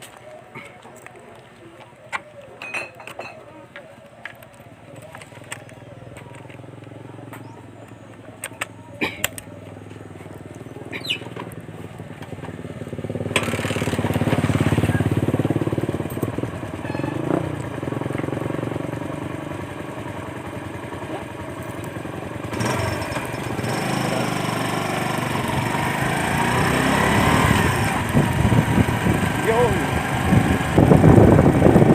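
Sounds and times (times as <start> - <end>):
motorcycle engine running: 3.8 - 31.9.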